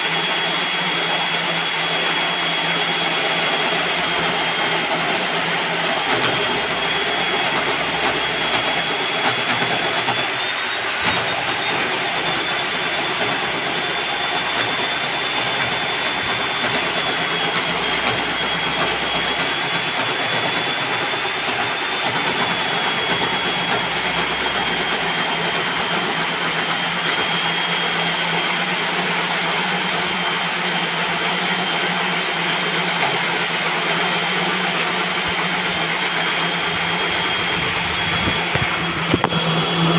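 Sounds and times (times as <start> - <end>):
core drill cutting concrete: 0.0 - 39.9.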